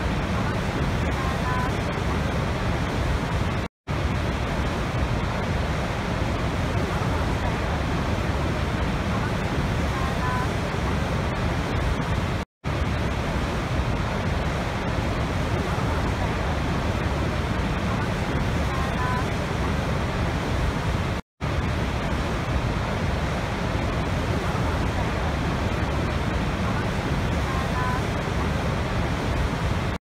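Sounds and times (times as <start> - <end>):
large waterfall rushing: 0.0 - 30.0.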